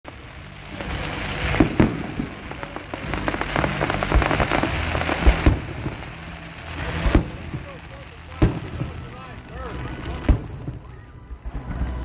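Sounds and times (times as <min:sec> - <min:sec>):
crackling and popping: 0:00.1 - 0:12.0
steady hiss: 0:00.1 - 0:12.0.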